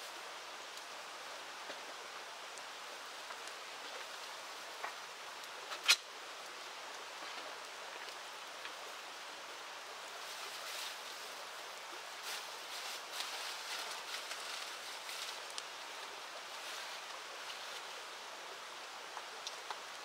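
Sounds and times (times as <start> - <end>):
river water rushing: 0.0 - 20.0
soft ticks and crackles: 0.0 - 20.0.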